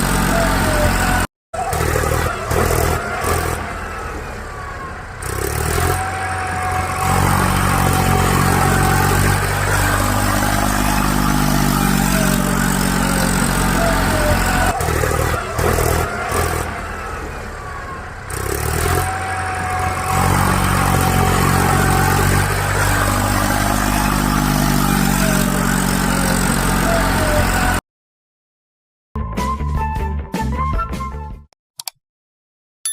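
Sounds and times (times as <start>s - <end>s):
heavy vehicle engine revving: 0.0s - 27.8s.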